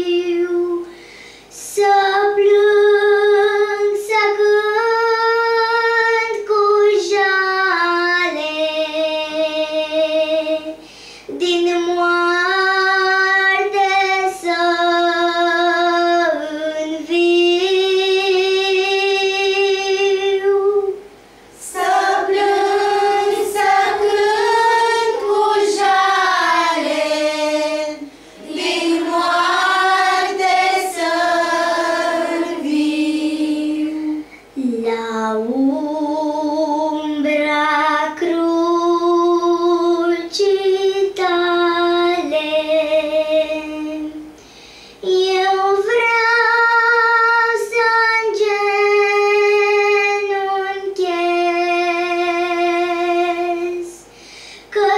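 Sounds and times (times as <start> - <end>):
girl singing a hymn: 0.0 - 54.9.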